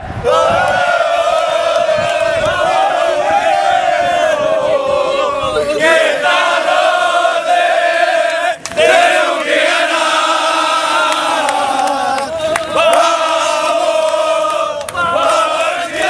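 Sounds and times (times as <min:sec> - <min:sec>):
group of voices chanting: 0:00.1 - 0:16.0.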